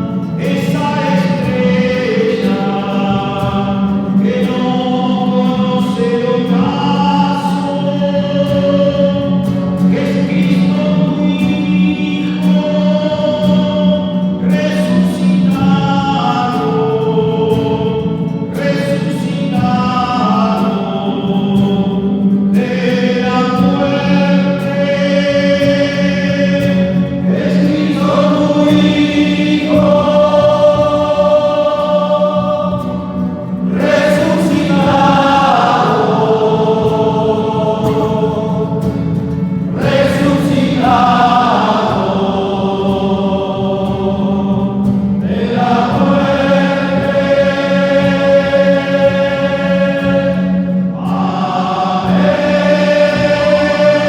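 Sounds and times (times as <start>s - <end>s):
choir chanting: 0.0s - 54.0s.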